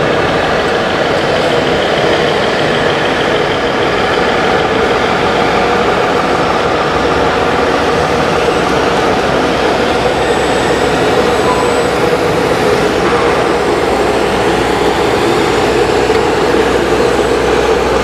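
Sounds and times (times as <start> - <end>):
simulated diesel truck engine: 0.0 - 18.0.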